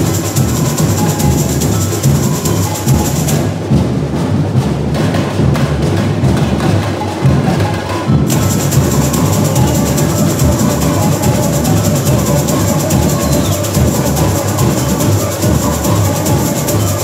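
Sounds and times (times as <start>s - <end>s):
high rattling percussion: 0.0s - 17.0s
samba drumming: 0.0s - 17.0s.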